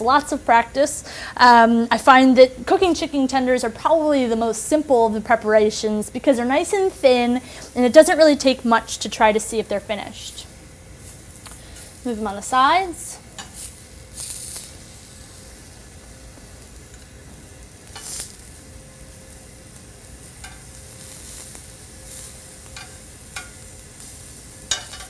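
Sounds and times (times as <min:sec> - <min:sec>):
chicken sizzling in a pan: 0:04.2 - 0:25.0.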